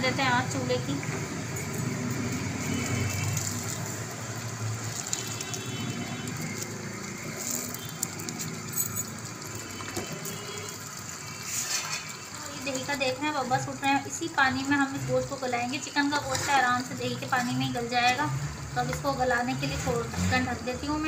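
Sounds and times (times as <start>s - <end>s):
stew bubbling in a pot: 0.5s - 21.0s.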